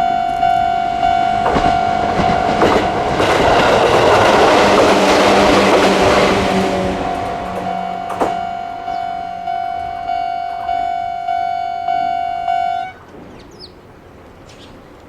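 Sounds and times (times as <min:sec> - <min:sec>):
level crossing warning bell ringing: 0:00.0 - 0:13.2.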